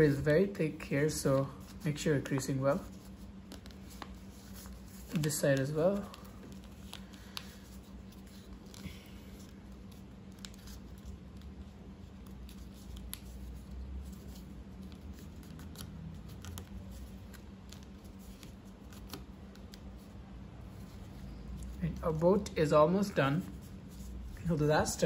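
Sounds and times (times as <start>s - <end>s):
paper crackling and rustling: 0.0s - 25.0s.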